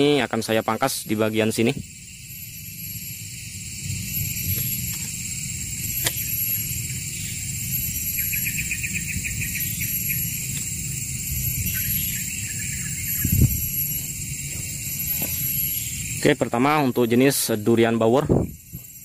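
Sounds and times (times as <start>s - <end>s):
high steady hiss: 0.0s - 19.0s.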